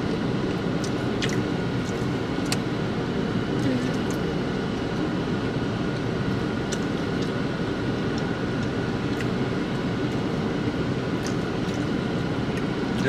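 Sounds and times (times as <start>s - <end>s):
car engine and fan humming: 0.0s - 13.0s.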